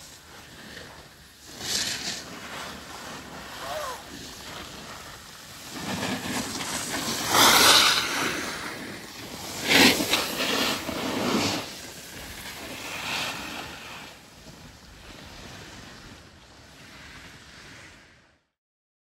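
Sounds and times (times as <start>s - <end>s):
skis sliding on snow: 0.0s - 18.5s.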